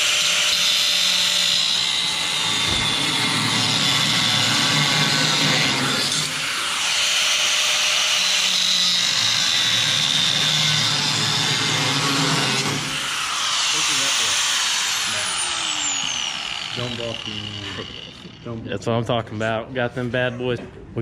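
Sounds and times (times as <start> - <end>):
power tool whining: 0.0 - 18.6.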